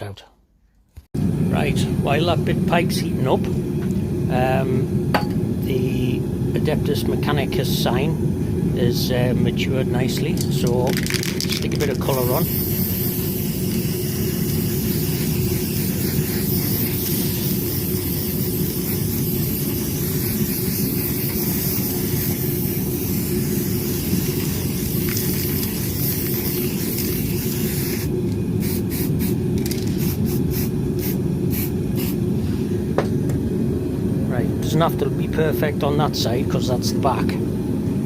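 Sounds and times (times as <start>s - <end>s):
gas torch burning: 1.2s - 37.8s.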